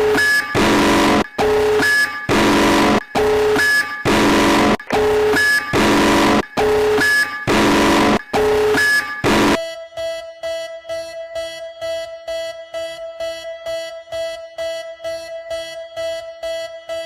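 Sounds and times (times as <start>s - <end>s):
two-tone alarm pulses: 0.0s - 17.0s.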